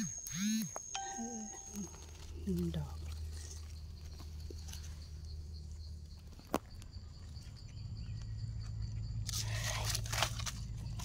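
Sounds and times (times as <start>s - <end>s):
high insect drone: 0.0s - 10.7s.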